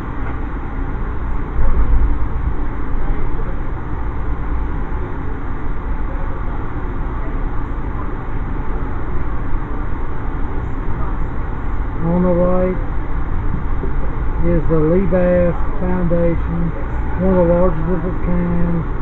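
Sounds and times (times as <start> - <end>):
train rumble inside coach: 0.0 - 19.0.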